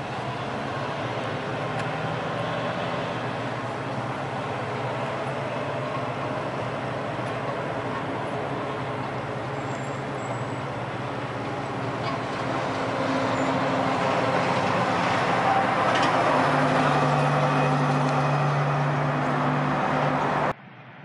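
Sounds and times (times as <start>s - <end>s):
diesel truck engine: 0.0s - 21.0s
road noise: 0.0s - 21.0s.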